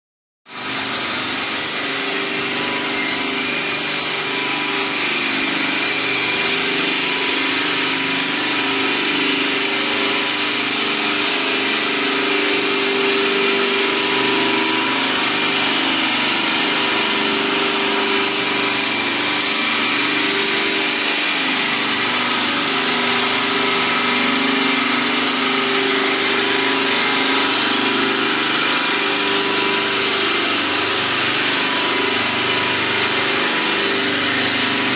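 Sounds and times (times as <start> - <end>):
polishing machine motor hum: 0.6 - 34.9.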